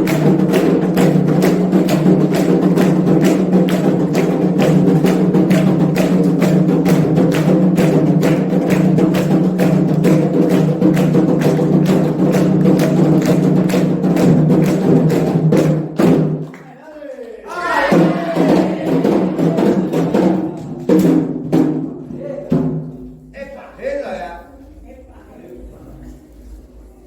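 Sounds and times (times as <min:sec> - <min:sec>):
hand drums: 0:00.0 - 0:16.5, 0:17.8 - 0:23.4.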